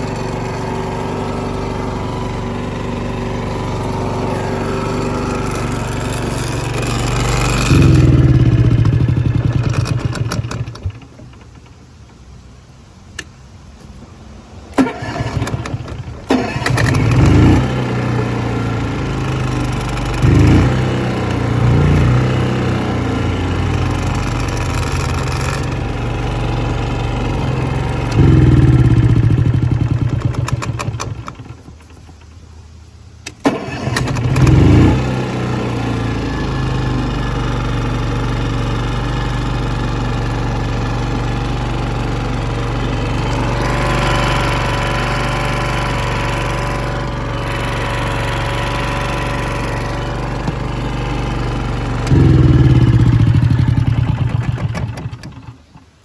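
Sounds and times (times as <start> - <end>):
generator engine revving: 0.0 - 12.0, 14.6 - 32.4, 33.2 - 56.0.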